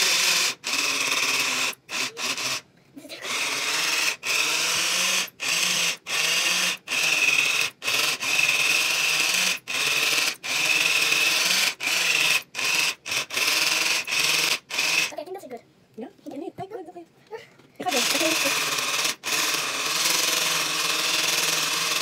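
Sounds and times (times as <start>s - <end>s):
electric whisk whirring: 0.0s - 15.1s, 17.8s - 22.0s.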